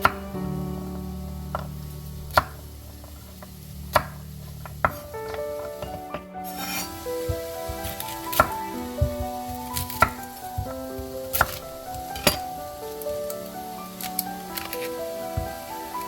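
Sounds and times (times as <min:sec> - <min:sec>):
slow melodic background music: 0:00.0 - 0:16.0.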